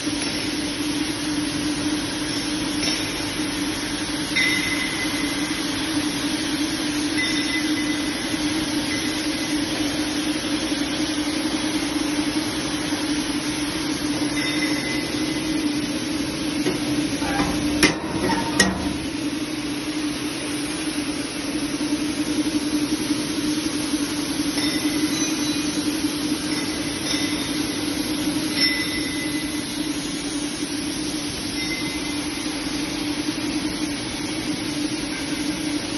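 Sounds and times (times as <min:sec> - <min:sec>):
grinding machine humming: 0:00.0 - 0:35.9.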